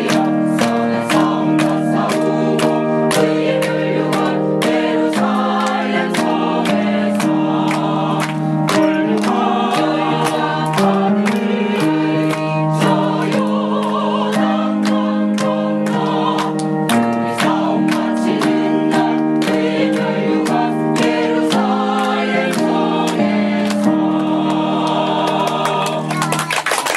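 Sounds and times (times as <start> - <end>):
choir singing a hymn: 0.0 - 26.1
sharp rhythmic strikes: 0.0 - 26.3
instrumental accompaniment: 0.0 - 26.9.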